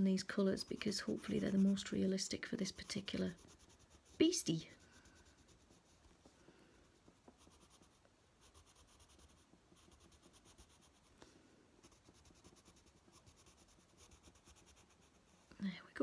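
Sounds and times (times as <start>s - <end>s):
pencil scratching on paper: 0.3s - 6.1s, 7.0s - 11.1s, 11.8s - 15.3s.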